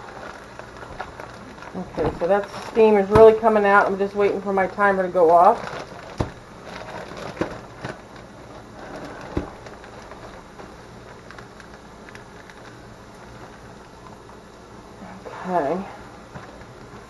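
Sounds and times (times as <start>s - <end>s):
plastic bag rustling: 0.0s - 14.4s, 15.3s - 17.0s.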